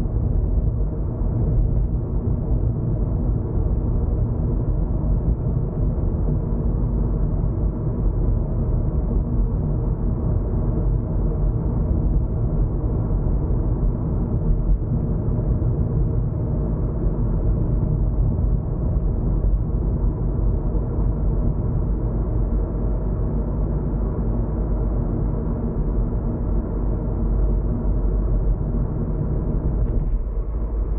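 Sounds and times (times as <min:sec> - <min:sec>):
faint engine drone: 0:00.0 - 0:30.9.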